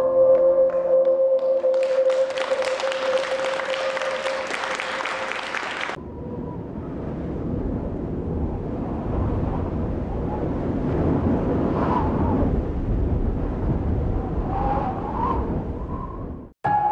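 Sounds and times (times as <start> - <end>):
low rumbling noise: 2.8 - 16.9.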